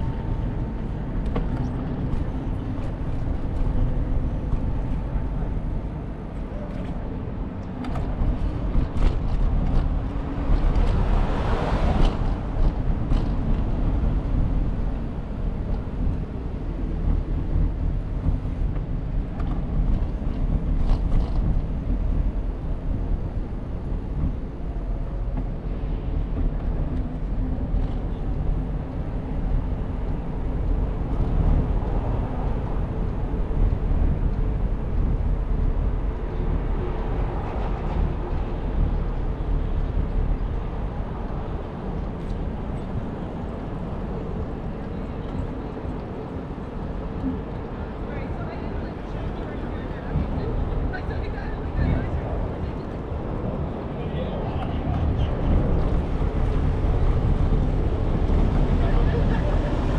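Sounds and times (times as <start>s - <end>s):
street traffic noise: 0.0s - 59.9s
wind rumbling on microphone: 0.0s - 59.9s.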